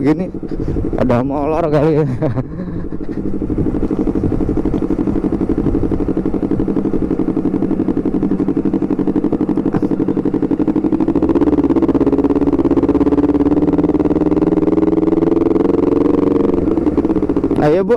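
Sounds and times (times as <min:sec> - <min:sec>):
motorcycle exhaust pulsing: 0:00.0 - 0:17.9.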